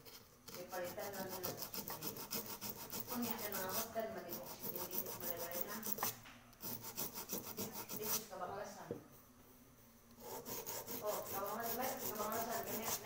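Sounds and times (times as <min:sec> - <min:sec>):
sandpaper rasping on metal pot: 0:00.0 - 0:08.2, 0:10.2 - 0:13.0.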